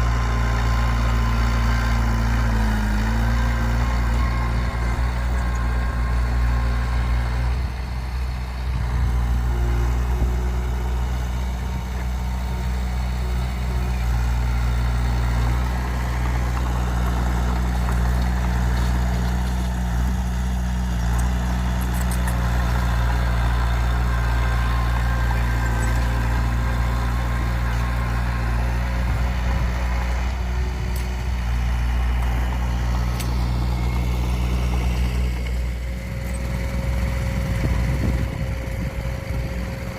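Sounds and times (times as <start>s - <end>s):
heavy diesel engine drone: 0.0s - 39.9s.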